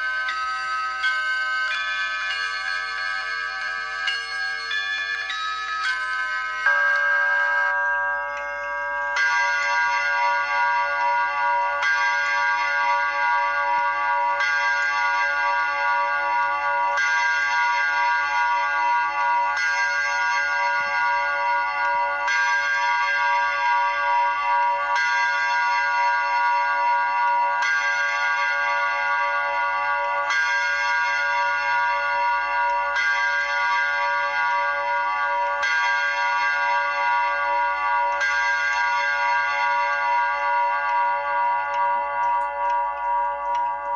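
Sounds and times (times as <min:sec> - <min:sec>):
grandfather clock striking: 0:00.0 - 0:43.9.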